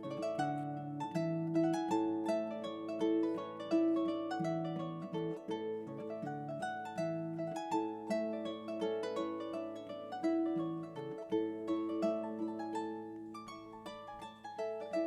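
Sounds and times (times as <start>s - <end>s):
harp melody: 0.0s - 15.0s.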